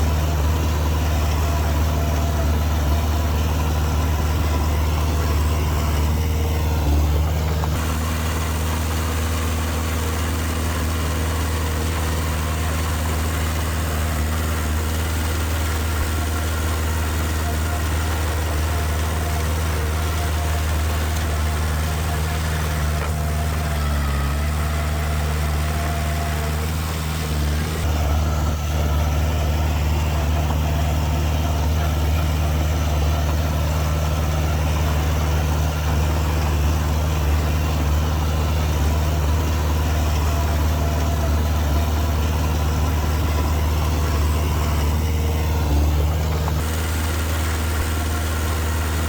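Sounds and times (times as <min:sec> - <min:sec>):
diesel engine running steadily: 0:00.0 - 0:49.0.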